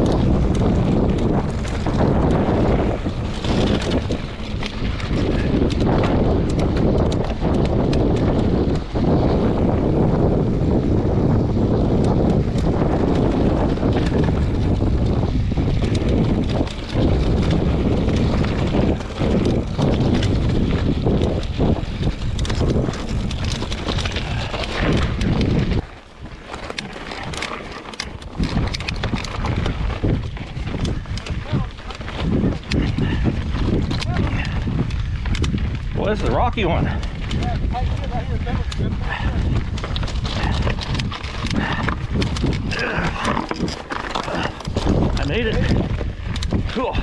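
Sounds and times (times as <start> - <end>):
bike rattles and knocks: 0.0 - 47.0
wind buffeting microphone: 0.0 - 47.0.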